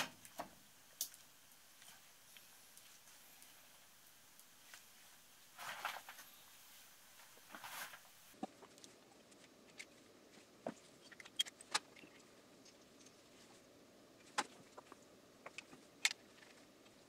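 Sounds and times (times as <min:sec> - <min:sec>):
faint room hiss: 0:00.0 - 0:17.0.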